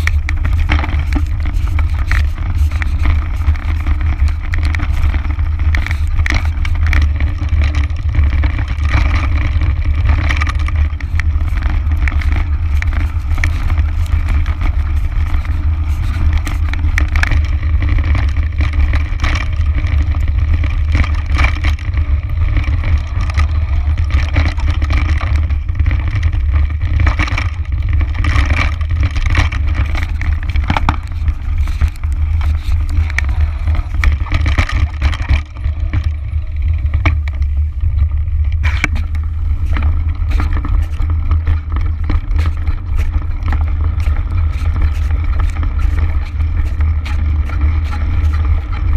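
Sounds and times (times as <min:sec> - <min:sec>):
bike clattering over bumps: 0:00.0 - 0:48.9
wind and vibration rumble: 0:00.0 - 0:48.9.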